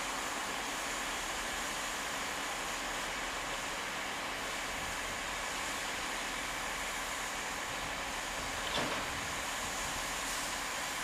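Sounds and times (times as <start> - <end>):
diesel train engines running: 0.0 - 11.0.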